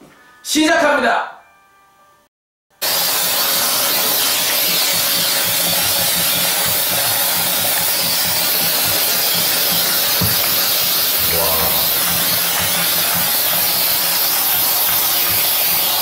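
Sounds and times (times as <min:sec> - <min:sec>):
steam cleaner hissing: 0:02.8 - 0:16.0.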